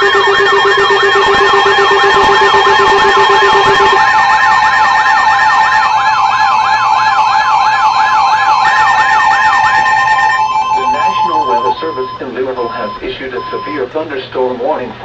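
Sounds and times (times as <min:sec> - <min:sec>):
wailing siren sweep: 0:00.0 - 0:12.2.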